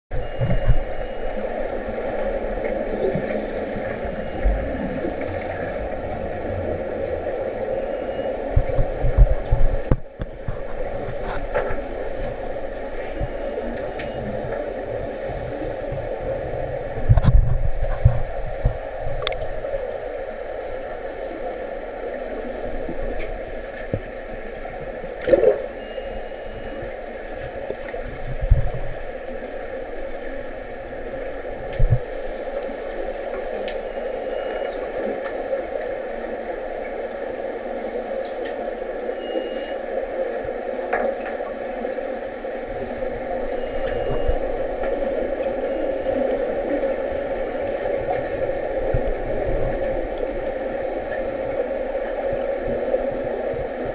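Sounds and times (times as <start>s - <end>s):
muffled underwater rushing hum: 0.1s - 53.9s.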